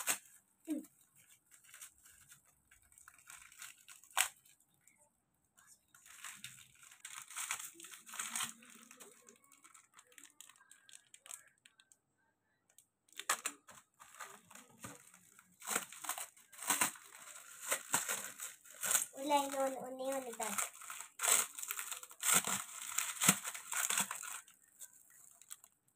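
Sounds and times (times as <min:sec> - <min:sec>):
plastic packaging crinkling: 0:00.0 - 0:04.6, 0:05.9 - 0:11.9, 0:13.1 - 0:25.9.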